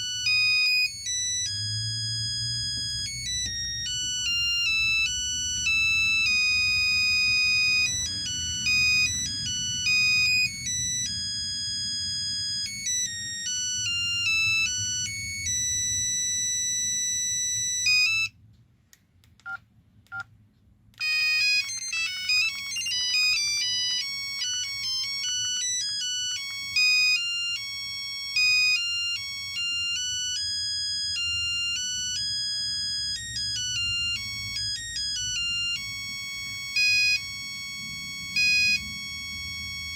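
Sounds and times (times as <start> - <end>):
phone ringtone melody: 0.0 - 18.3, 21.0 - 39.9.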